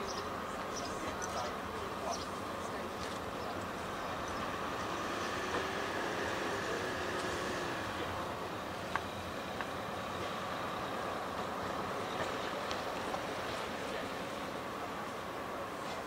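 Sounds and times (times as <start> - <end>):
diesel locomotive running: 0.0 - 16.0.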